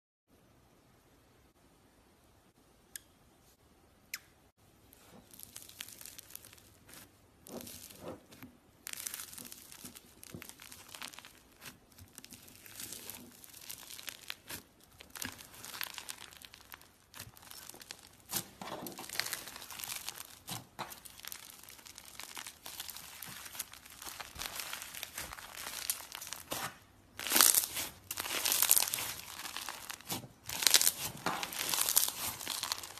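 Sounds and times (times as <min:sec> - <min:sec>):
slime squished by hand: 0:05.0 - 0:32.9.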